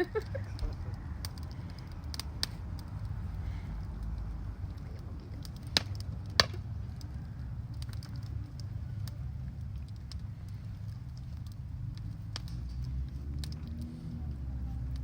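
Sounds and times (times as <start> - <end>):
bonfire crackling: 0.0 - 15.0
fire pops: 0.0 - 15.0
low rumble: 0.0 - 15.0.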